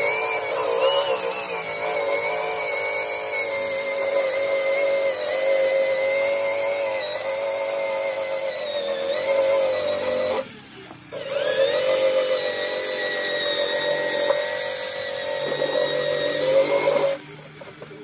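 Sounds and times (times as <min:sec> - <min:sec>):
rotary tool high-pitched whine: 0:00.0 - 0:18.0.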